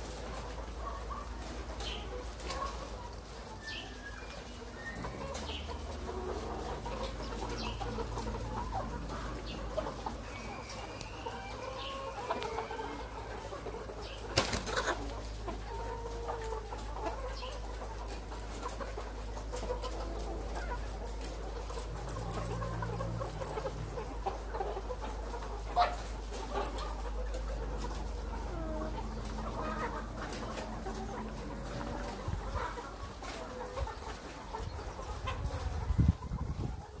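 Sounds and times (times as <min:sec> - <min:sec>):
hens clucking: 0:00.0 - 0:37.0.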